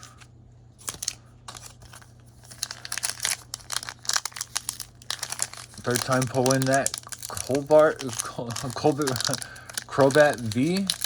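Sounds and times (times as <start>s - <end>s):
foil wrapper crinkling: 0.8s - 11.0s.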